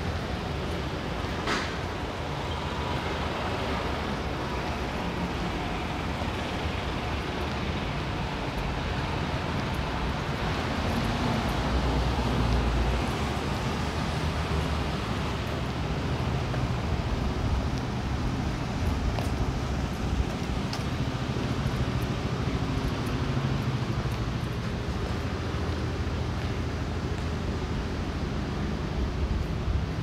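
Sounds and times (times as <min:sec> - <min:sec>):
road traffic: 0:00.0 - 0:30.0
vehicle rumble: 0:00.0 - 0:30.0.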